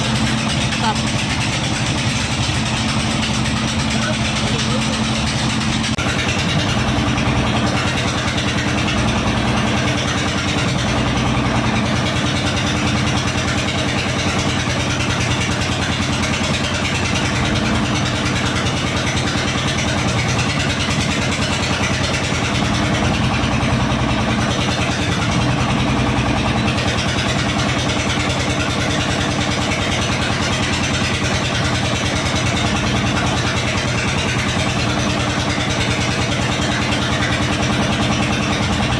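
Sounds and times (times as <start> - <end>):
small boat engine running: 0.0 - 38.9.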